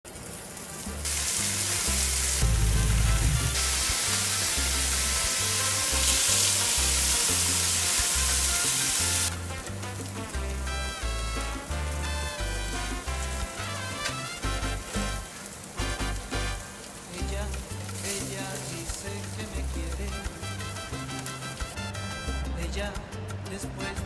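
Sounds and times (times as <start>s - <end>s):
chicken sizzling on a griddle: 0.1s - 21.9s
background music with bass line: 0.9s - 24.0s.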